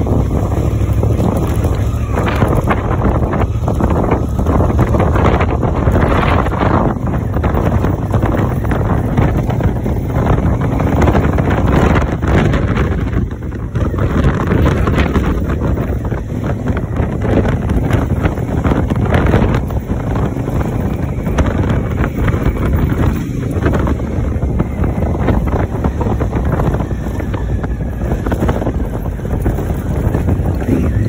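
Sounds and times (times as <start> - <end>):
motorcycle engine running: 0.0 - 31.0
wind buffeting microphone: 0.0 - 31.0.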